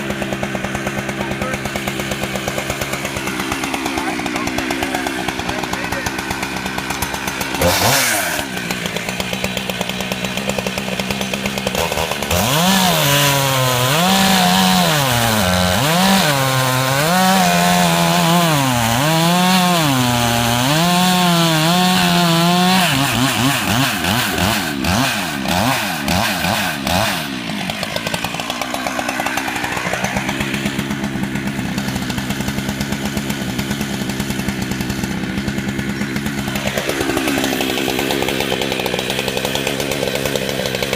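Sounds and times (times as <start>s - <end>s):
two-stroke chainsaw cutting log: 0.0s - 40.9s.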